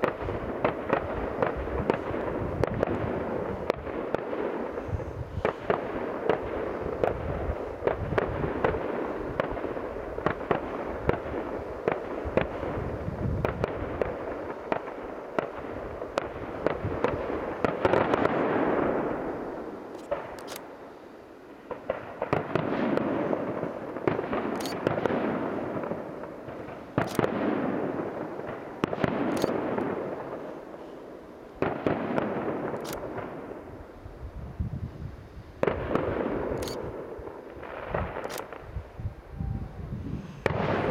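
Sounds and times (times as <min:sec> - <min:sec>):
fireworks shells bursting: 0:00.0 - 0:34.0, 0:35.6 - 0:38.8.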